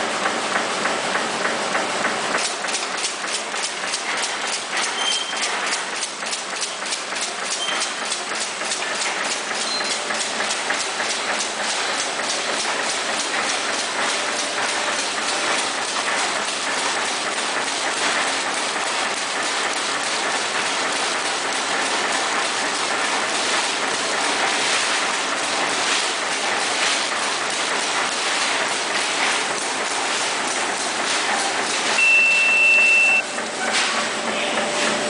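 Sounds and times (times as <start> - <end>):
machine fast regular clatter: 0.0 - 32.0
continuous mechanical noise: 0.0 - 35.0.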